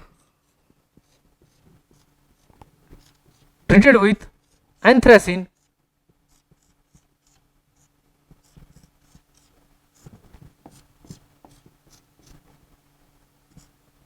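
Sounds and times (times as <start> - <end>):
low electrical hum: 0.0 - 14.0
pen scratching on paper: 0.2 - 3.6, 4.3 - 12.6.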